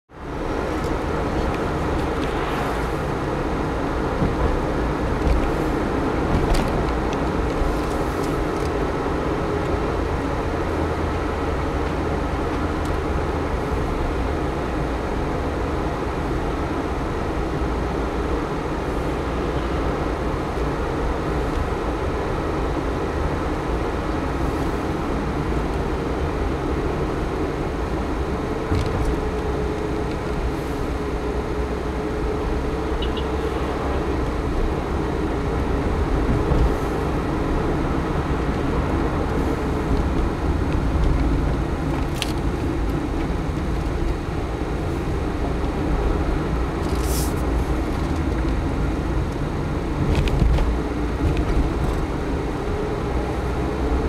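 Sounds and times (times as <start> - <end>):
car engine and tyre noise: 0.1 - 54.0.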